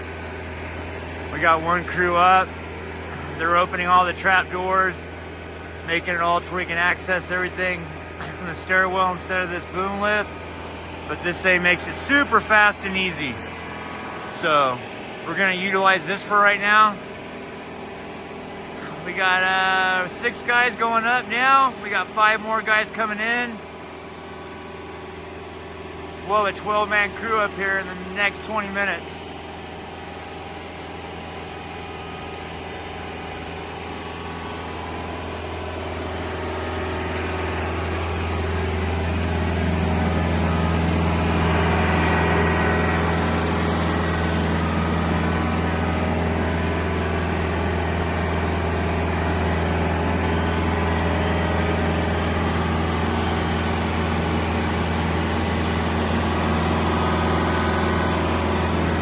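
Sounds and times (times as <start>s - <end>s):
boom lift engine running: 0.0s - 59.0s.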